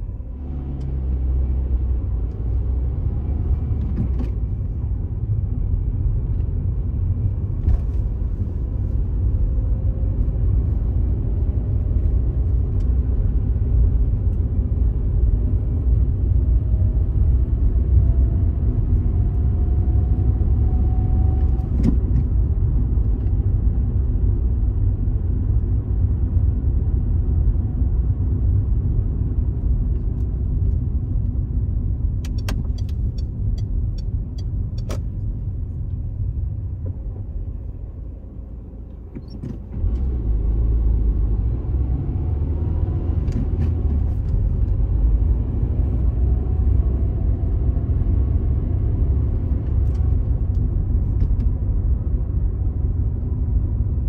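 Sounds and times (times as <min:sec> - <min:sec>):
car driving rumble: 0:00.0 - 0:54.0.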